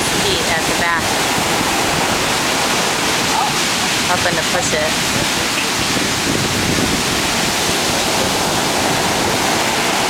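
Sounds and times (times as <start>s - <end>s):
surf breaking on beach: 0.0s - 10.0s.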